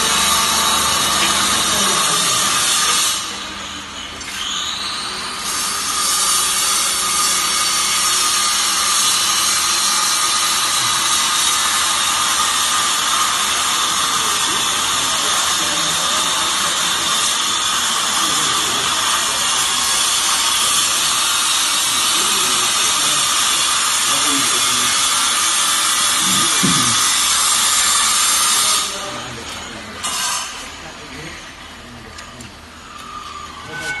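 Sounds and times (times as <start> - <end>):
hydraulic motor and pump whine: 0.0 - 34.0.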